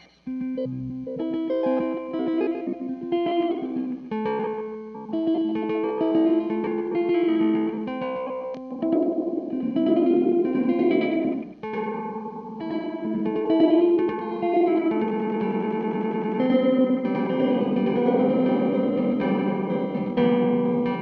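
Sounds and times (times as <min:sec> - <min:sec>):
electric guitar with delay effect: 0:00.0 - 0:21.0.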